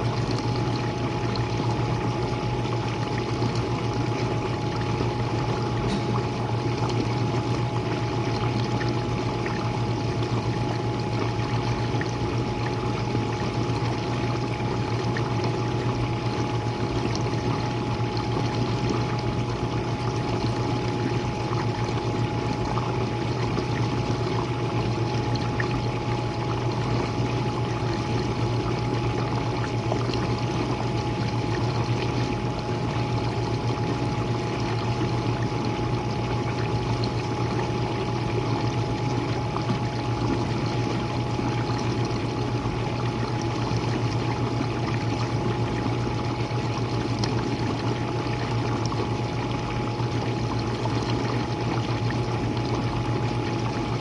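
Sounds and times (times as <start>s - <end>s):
dishwasher pump motor hum: 0.0s - 54.0s
thin steady whine: 0.0s - 54.0s.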